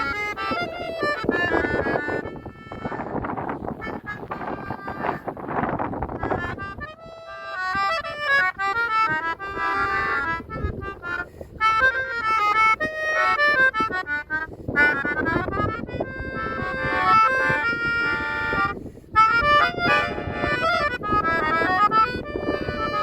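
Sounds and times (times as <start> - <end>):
pianica playing lively melody: 0.0 - 23.0
wind rumble on microphone: 0.0 - 23.0.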